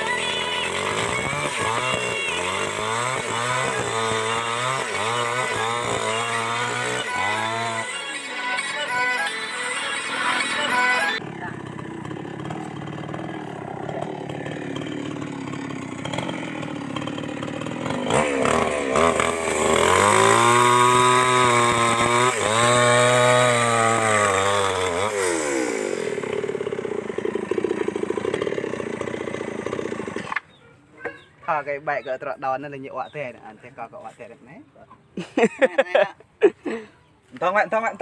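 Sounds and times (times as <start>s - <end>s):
chainsaw cutting log: 0.0s - 30.5s.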